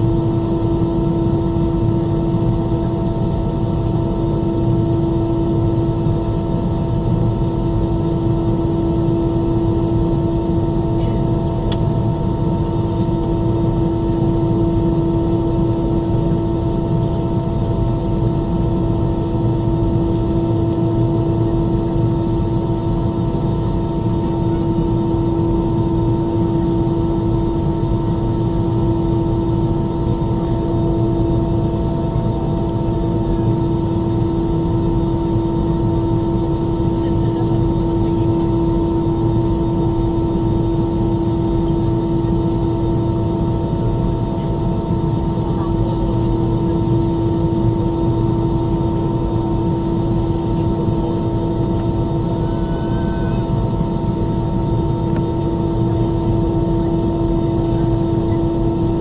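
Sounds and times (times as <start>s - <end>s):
jet engines idling in cabin: 0.0s - 59.0s.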